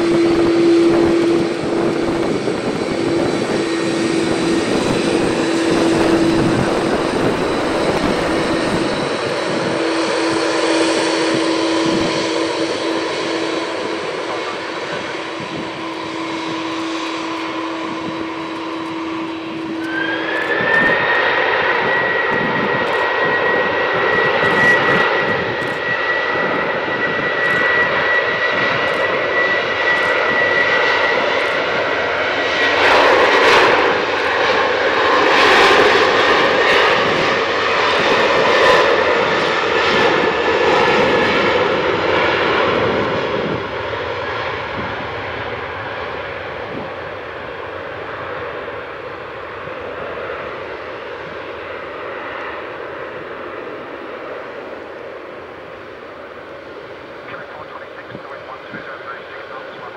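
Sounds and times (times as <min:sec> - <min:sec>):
aircraft passing on runway: 0:00.0 - 0:59.9
jet engines spooling up: 0:00.0 - 0:59.9.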